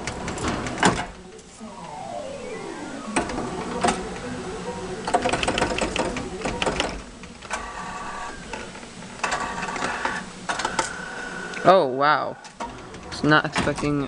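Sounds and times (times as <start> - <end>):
claw machine motors whining: 0.0 - 11.6.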